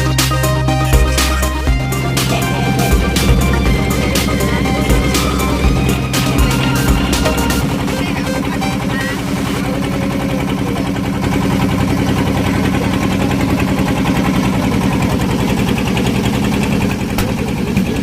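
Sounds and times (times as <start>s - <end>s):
boat engine chugging: 0.0s - 18.0s.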